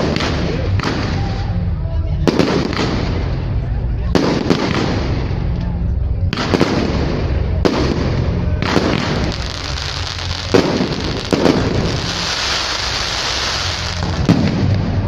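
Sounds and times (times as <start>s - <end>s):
fireworks crackling: 0.0s - 1.7s, 2.3s - 5.6s, 6.3s - 15.0s.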